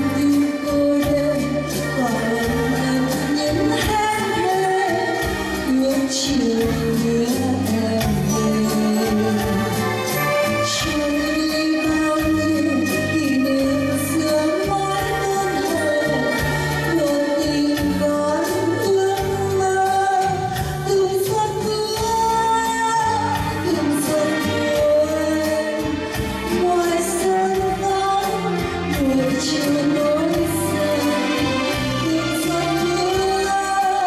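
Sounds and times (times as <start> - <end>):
steady bass line: 0.0 - 33.9
woman singing a ballad: 0.0 - 34.0.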